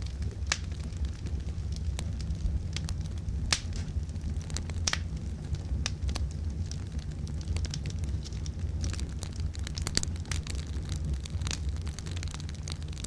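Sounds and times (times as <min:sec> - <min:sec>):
fire low rumble: 0:00.0 - 0:13.0
wood fire crackling and popping: 0:00.0 - 0:13.0.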